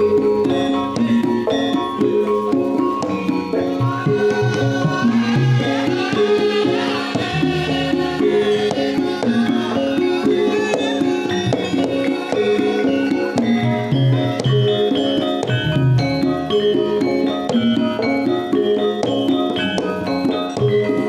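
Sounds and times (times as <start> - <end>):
gamelan metal keyed instruments: 0.0 - 21.0
hand drum strokes: 0.0 - 21.0
wavering high melody: 0.0 - 21.0.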